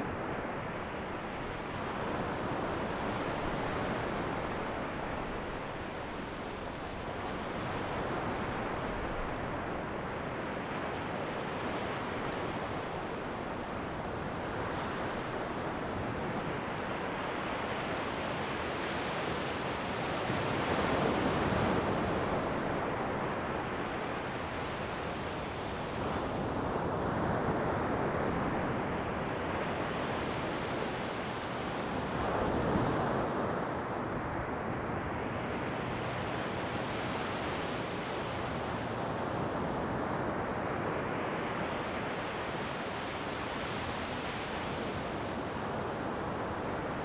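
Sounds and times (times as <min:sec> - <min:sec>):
ocean waves washing on shore: 0:00.0 - 0:47.0.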